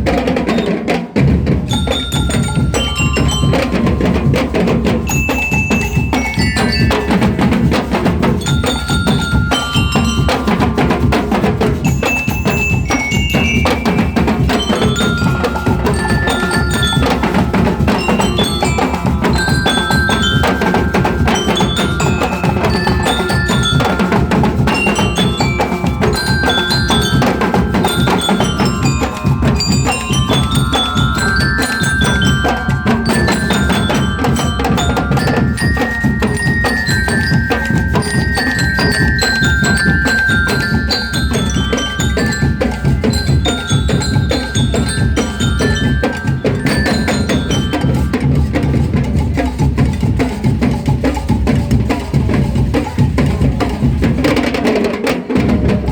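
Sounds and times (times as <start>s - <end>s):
drums beating: 0.0s - 55.9s
bell lyre melody: 1.6s - 51.0s.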